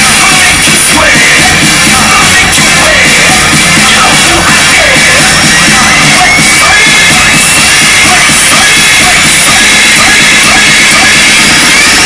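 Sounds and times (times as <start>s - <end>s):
loud rock music with drums: 0.0s - 12.0s.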